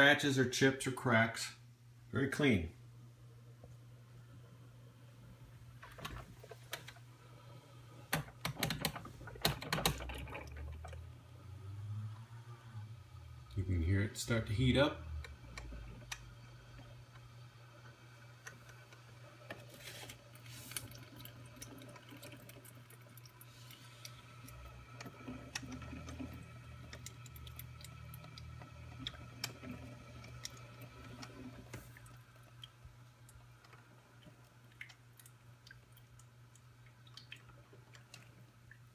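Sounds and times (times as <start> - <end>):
steady low hum: 0.0 - 38.9
coffee maker ticks and gurgles: 5.9 - 12.8, 13.4 - 38.9.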